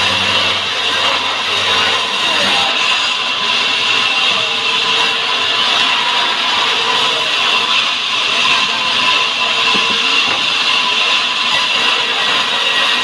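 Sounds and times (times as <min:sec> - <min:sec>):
band saw sawing through log: 0:00.0 - 0:13.0.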